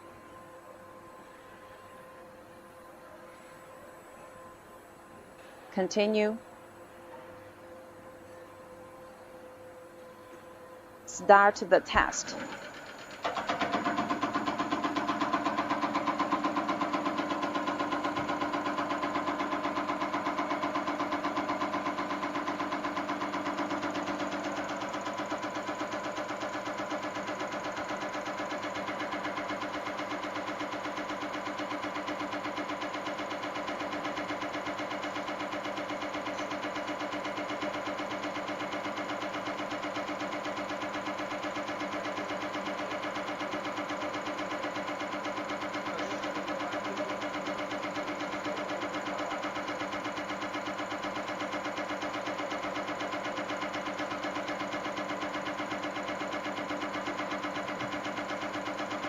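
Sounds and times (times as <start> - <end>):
injector test bench pumping rhythmically: 11.0 - 59.0.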